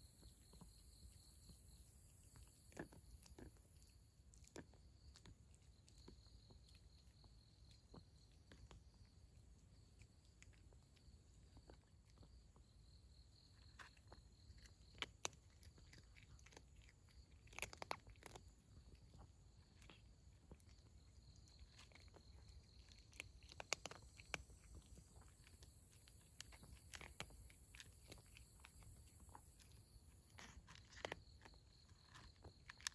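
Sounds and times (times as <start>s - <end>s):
cat crunching dry kibble: 2.2s - 32.9s.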